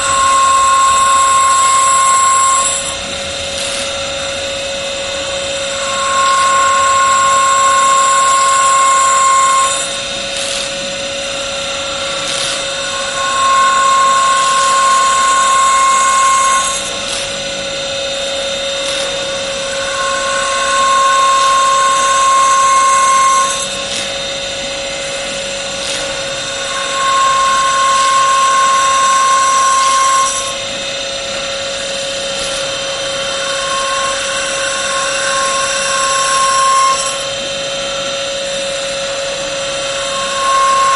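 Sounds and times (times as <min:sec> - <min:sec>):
wood-turning machine whine: 0:00.0 - 0:40.9.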